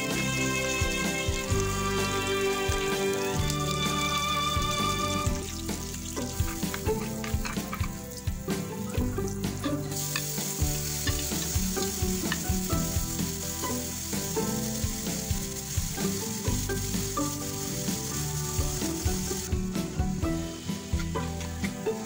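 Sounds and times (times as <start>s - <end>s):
vegetables sizzling in a frying pan: 0.0s - 22.0s.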